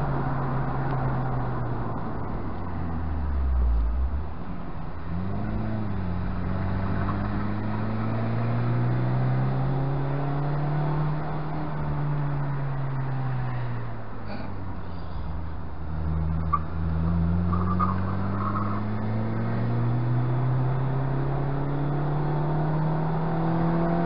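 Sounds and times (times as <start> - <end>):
car engine revving: 0.0 - 13.8, 15.8 - 24.0.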